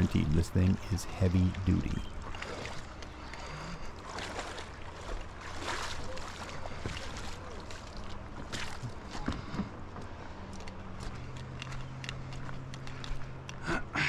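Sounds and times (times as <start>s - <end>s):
splashing footsteps in water: 2.1s - 13.5s.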